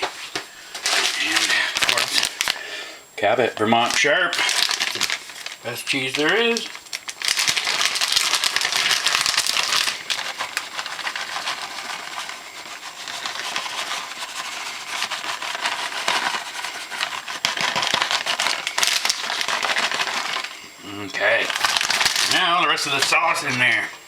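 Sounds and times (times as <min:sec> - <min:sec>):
food packaging crinkling: 0:00.0 - 0:02.8, 0:03.6 - 0:24.0.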